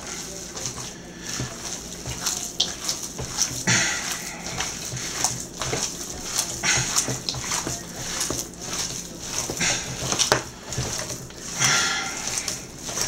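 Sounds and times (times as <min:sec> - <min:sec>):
hands squelching raw meat: 0:00.0 - 0:13.0.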